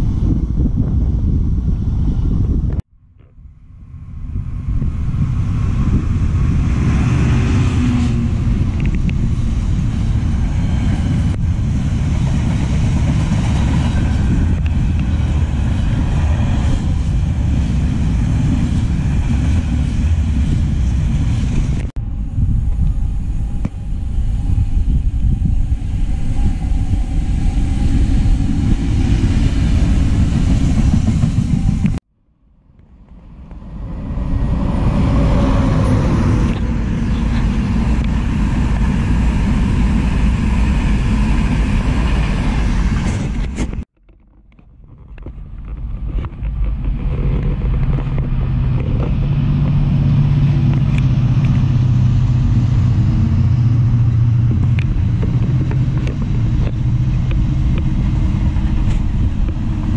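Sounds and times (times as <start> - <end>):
trains rumbling past: 3.4 - 32.0, 32.9 - 43.9, 46.6 - 59.9.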